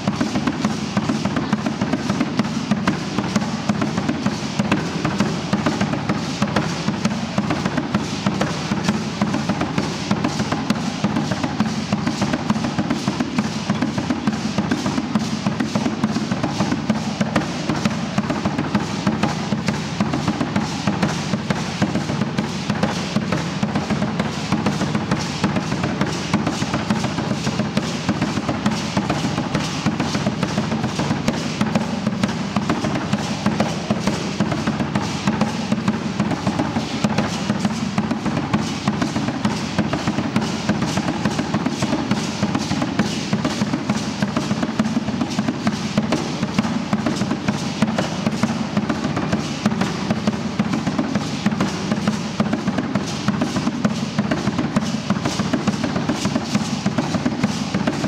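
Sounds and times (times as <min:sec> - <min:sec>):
drum beating fast rhythm: 0:00.0 - 0:58.0.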